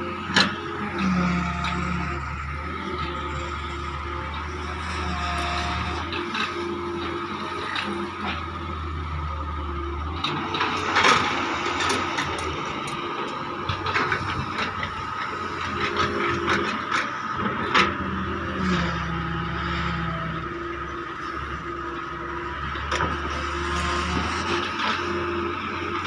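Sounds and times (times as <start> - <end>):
excavator diesel engine whining: 0.0 - 26.0.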